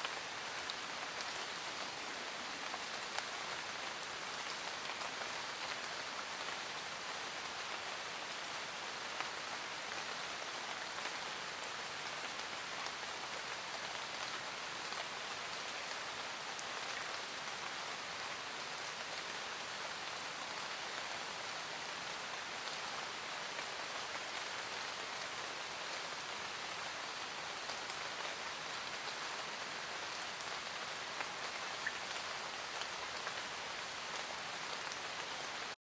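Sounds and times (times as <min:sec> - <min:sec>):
rain falling in a forest: 0:00.0 - 0:35.8.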